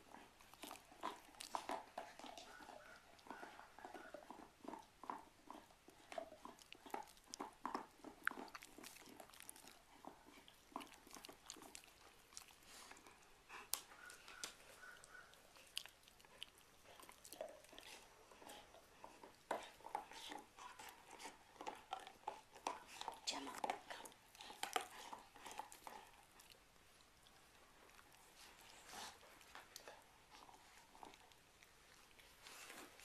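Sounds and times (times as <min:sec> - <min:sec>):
dog chewing with crisp crunches: 0:00.0 - 0:33.0.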